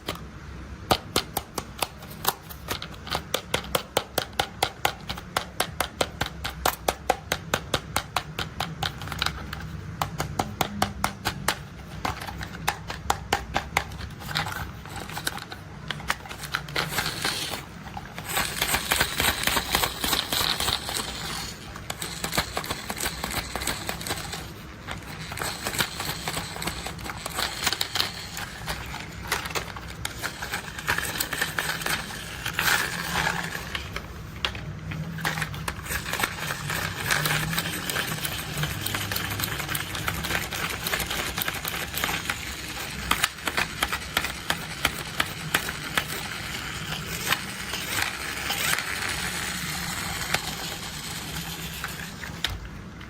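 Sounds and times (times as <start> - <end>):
plastic toys clicking and rattling: 0.0 - 53.0.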